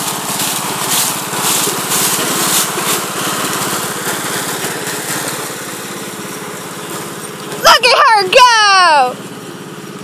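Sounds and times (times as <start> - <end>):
riding lawn mower engine: 0.0 - 10.0.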